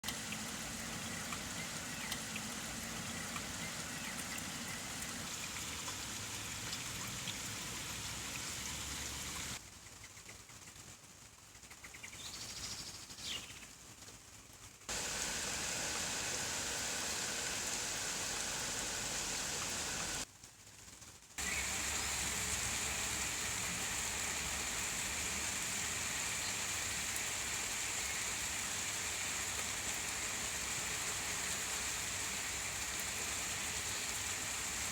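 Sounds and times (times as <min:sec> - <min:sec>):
steady rain falling: 0:00.0 - 0:09.7, 0:13.6 - 0:34.9.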